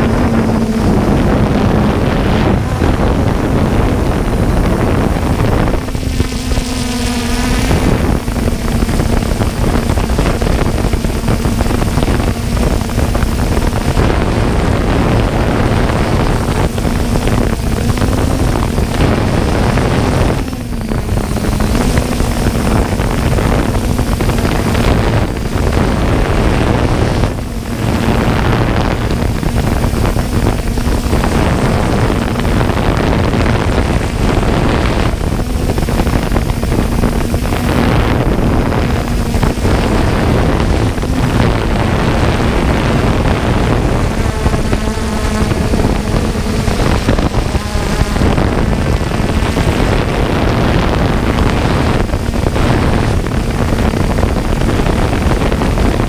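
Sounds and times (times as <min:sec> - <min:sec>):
drone motors humming: 0:00.0 - 0:56.0
wind noise on microphone: 0:00.0 - 0:56.0.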